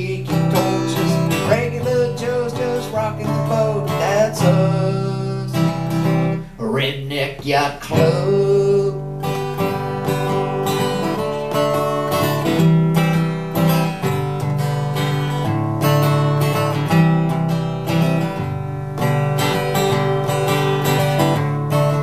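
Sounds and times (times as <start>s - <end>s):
acoustic guitar strummed: 0.0s - 22.0s.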